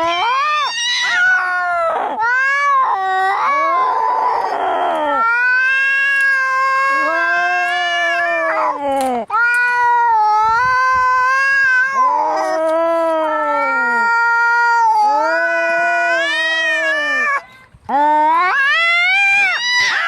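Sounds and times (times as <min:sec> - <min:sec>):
cats yowling: 0:00.0 - 0:17.5, 0:18.3 - 0:20.0.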